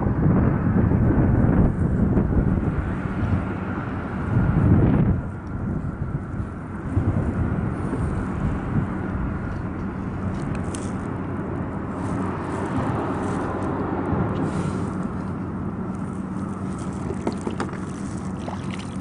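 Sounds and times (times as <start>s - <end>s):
traffic rumble overhead: 0.0s - 19.0s
wind on microphone: 0.0s - 19.0s.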